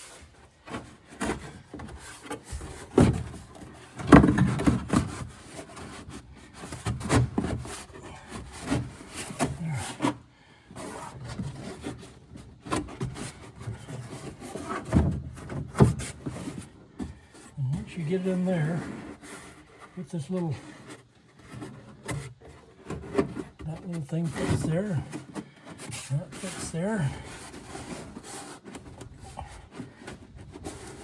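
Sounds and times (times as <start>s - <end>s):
cardboard panel scraping and knocking: 0.0s - 17.5s, 18.3s - 31.0s.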